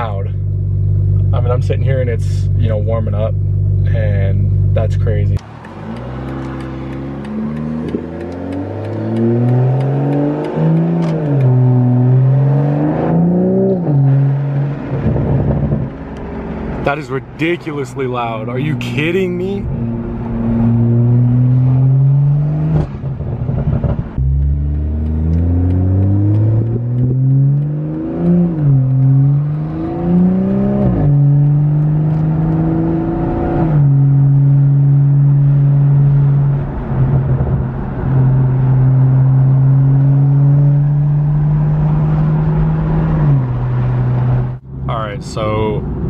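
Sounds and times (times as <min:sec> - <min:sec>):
loud car engine accelerating: 0:04.5 - 0:46.0.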